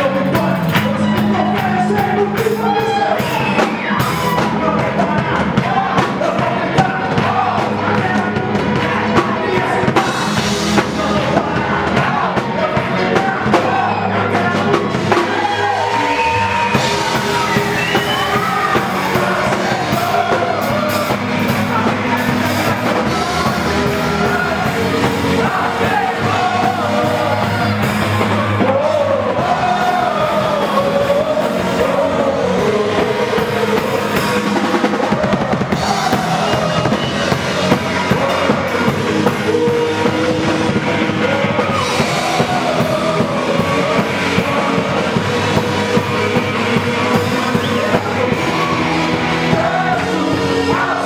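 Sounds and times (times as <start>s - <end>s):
band playing: 0.0s - 51.0s
person singing: 0.0s - 51.0s
sustained bass notes: 0.0s - 51.0s.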